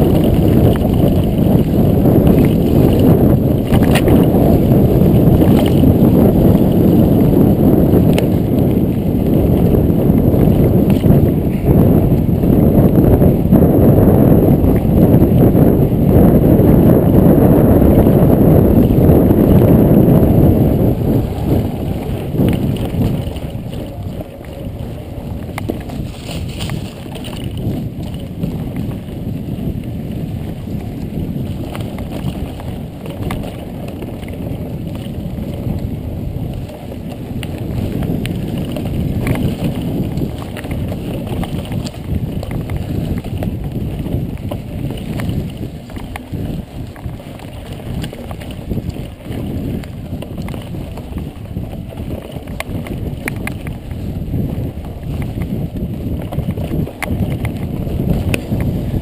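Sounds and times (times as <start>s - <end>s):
bike clicks and rattles: 0.0s - 59.0s
bike tyre noise: 0.0s - 59.0s
wind buffeting microphone: 0.0s - 59.0s.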